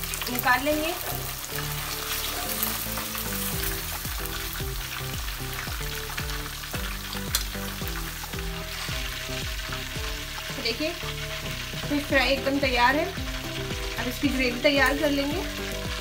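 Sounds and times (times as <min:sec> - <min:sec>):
hot oil sizzling and bubbling: 0:00.0 - 0:16.0
wire skimmer lifting fried fish: 0:00.0 - 0:16.0.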